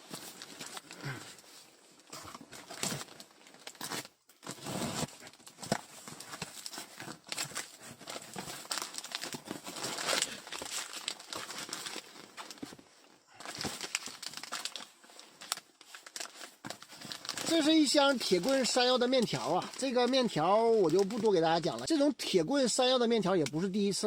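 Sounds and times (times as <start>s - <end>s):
plastic and cardboard rustling: 0.0s - 21.9s.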